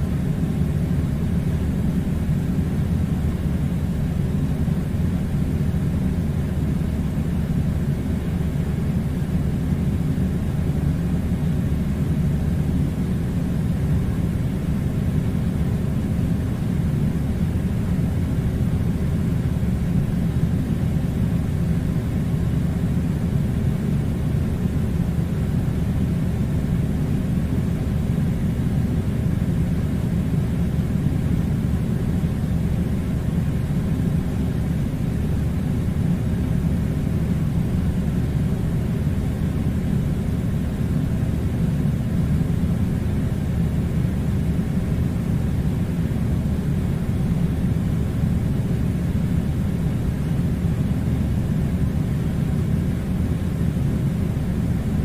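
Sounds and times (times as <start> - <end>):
air conditioner running: 0.0 - 55.0.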